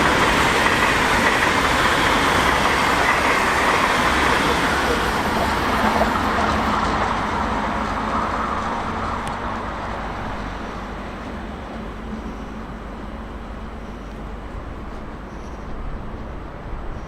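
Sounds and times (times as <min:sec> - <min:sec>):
train running past: 0:00.0 - 0:17.0.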